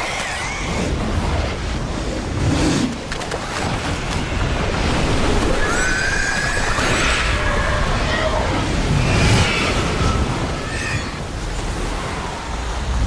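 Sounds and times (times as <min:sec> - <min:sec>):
roar of churning flood water: 0:00.0 - 0:13.0.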